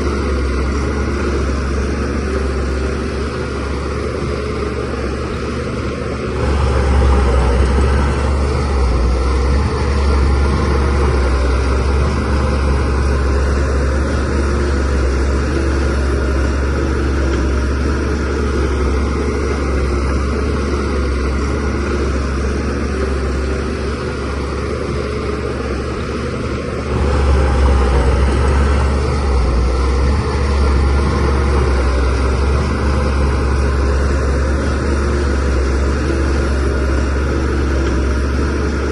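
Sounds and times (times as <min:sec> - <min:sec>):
bulldozer diesel engine droning: 0:00.0 - 0:38.9.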